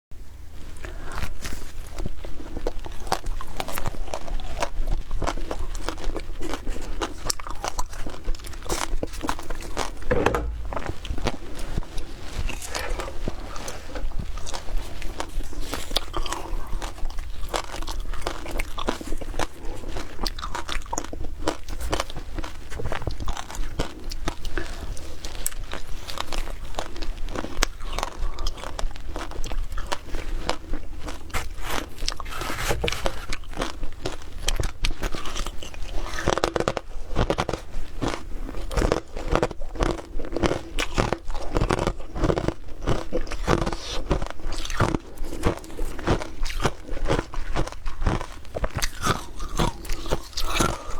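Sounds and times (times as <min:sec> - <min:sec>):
ice being chewed: 0:00.6 - 0:50.9.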